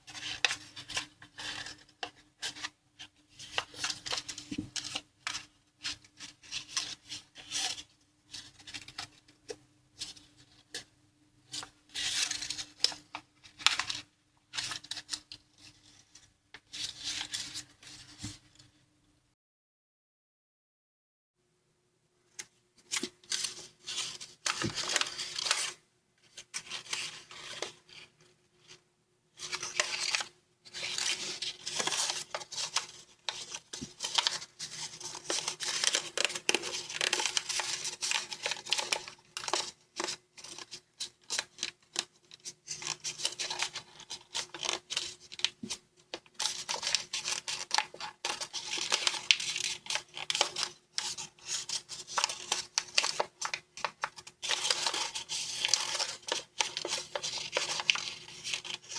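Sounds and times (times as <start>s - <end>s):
paper rustling and crinkling: 0.0s - 9.4s, 11.5s - 18.5s, 22.8s - 28.8s, 29.4s - 58.9s.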